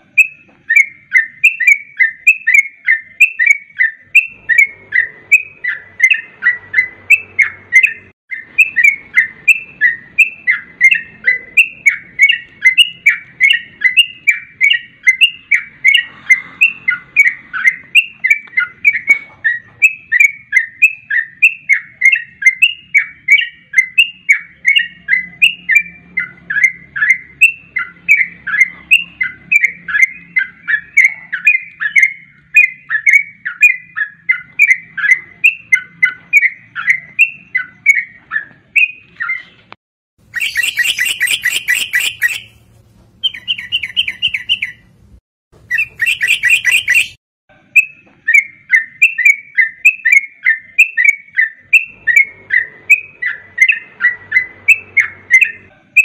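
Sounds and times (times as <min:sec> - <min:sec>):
bulbul song: 0:00.0 - 0:39.5, 0:40.2 - 0:45.0, 0:45.6 - 0:56.0.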